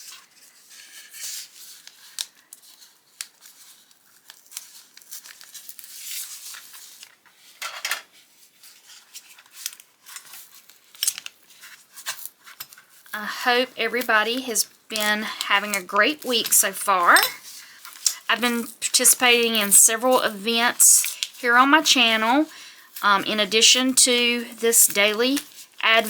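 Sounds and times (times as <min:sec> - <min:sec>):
packaging rustling and tearing: 0:00.0 - 0:07.6, 0:08.3 - 0:23.7, 0:24.9 - 0:26.0.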